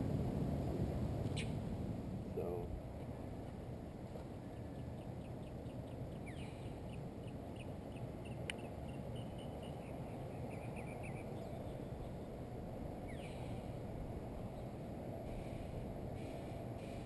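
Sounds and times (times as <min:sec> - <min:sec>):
steady low outdoor rush: 0:00.0 - 0:17.0.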